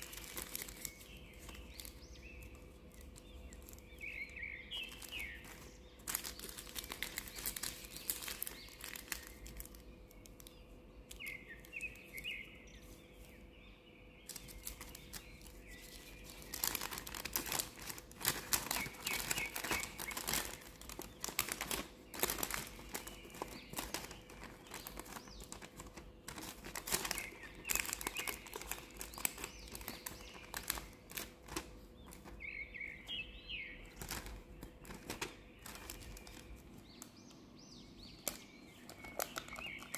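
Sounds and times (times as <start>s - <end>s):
wrapping paper rustling and crinkling: 0.0s - 13.4s, 14.2s - 37.3s, 38.1s - 39.9s.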